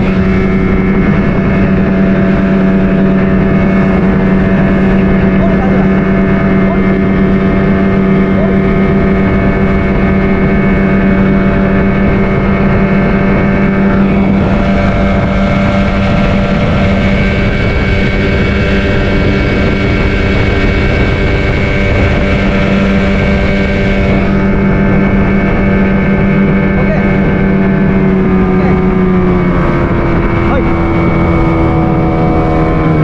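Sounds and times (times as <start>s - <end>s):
outboard motor running: 0.0s - 33.0s
wind and water rushing: 0.0s - 33.0s.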